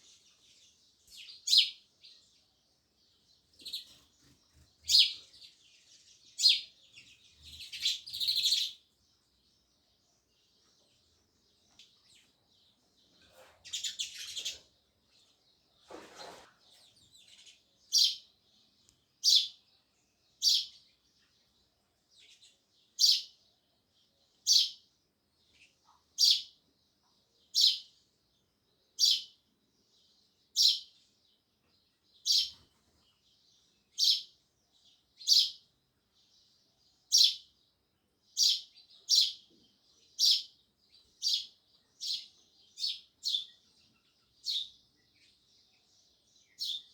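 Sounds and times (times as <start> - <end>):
sparrow chirping: 0.0 - 15.8, 16.7 - 46.9.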